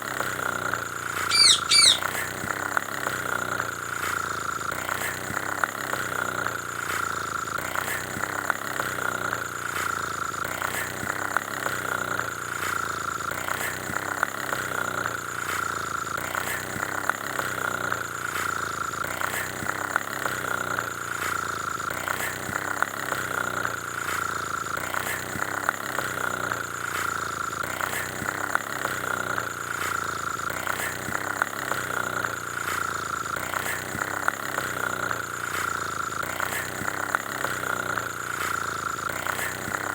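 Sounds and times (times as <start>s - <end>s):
motor running with whine: 0.0s - 39.9s
rattle of small ticks: 0.0s - 39.9s.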